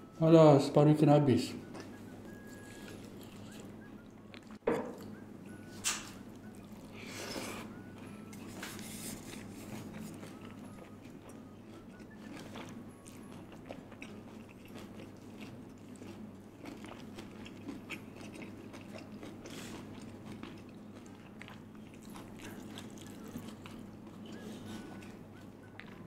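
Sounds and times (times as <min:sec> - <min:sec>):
person chewing food: 0:01.6 - 0:26.0.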